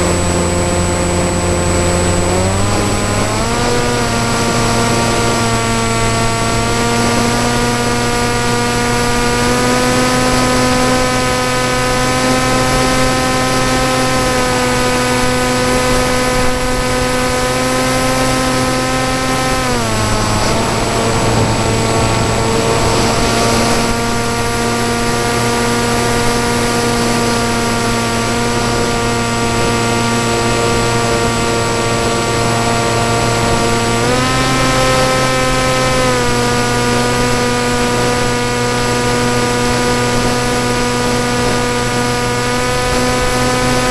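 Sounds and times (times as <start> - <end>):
model aircraft motor and propeller: 0.0 - 43.9.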